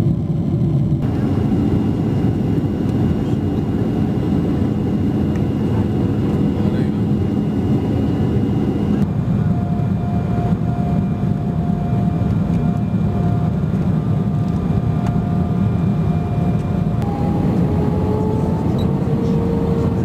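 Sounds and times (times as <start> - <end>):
jet engine and cabin noise: 0.0 - 20.0.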